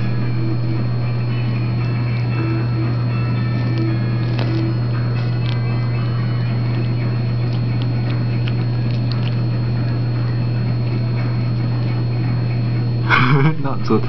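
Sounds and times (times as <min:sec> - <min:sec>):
loud low hum: 0:00.0 - 0:14.0.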